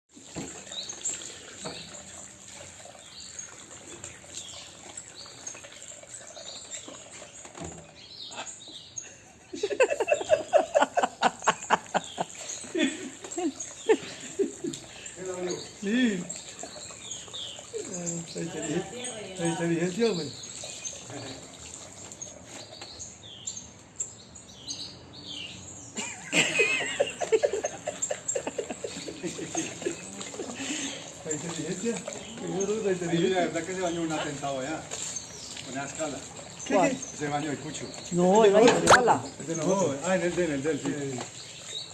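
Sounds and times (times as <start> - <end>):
bird chirping: 2.9 - 41.9.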